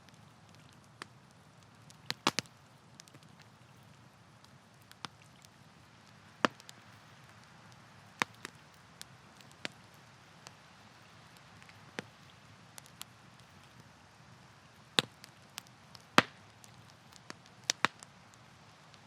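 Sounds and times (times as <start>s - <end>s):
burning wood crackling and popping: 0.0s - 19.0s.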